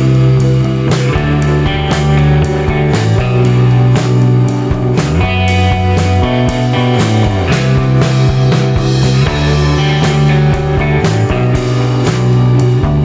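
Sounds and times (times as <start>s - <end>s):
rock music with guitar and drums: 0.0s - 13.0s.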